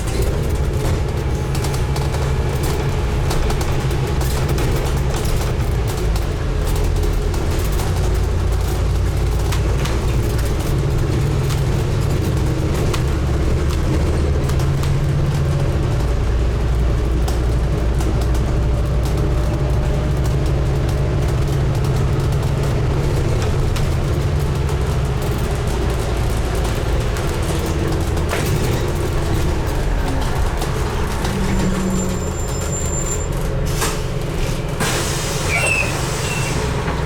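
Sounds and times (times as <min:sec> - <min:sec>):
bus body clicks and rattles: 0:00.0 - 0:37.0
bus engine running: 0:00.0 - 0:37.0.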